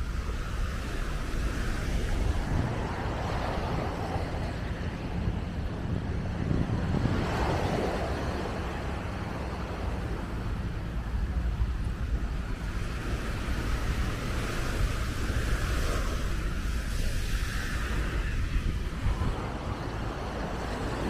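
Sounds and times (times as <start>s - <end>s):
outdoor rush of noise: 0.0s - 21.0s
wind buffeting microphone: 0.0s - 21.0s.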